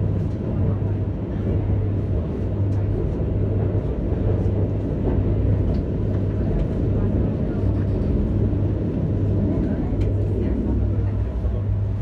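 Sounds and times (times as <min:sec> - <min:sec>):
constant hum: 0:00.0 - 0:12.0
train rumbling from inside carriage: 0:00.0 - 0:12.0.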